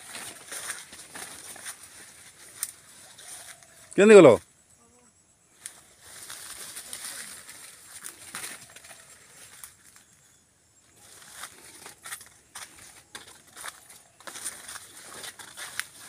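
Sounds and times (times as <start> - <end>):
undergrowth brushing: 0.0 - 3.8, 5.6 - 10.3, 10.9 - 16.0
footsteps crunching dry leaves: 0.0 - 3.9, 5.7 - 10.1, 10.9 - 16.0.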